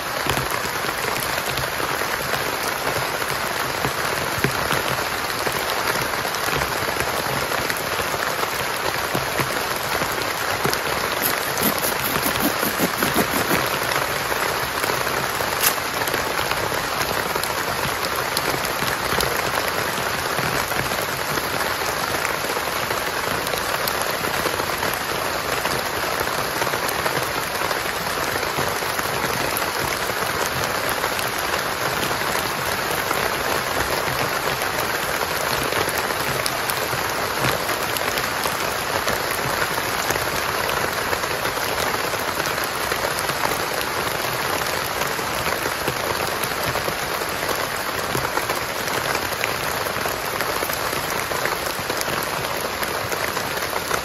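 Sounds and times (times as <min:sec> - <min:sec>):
heavy rain: 0:00.0 - 0:11.8, 0:13.1 - 0:54.0.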